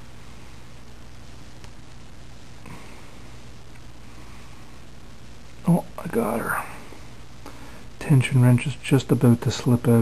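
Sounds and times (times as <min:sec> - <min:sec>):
steady hiss and low hum: 0:00.0 - 0:10.0.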